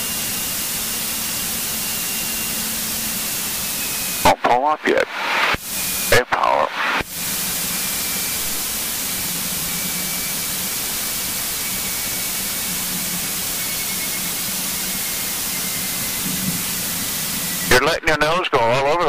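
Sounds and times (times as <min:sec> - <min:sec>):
aircraft engine hiss through headset: 0:00.0 - 0:19.0
faint high whine: 0:00.0 - 0:19.0.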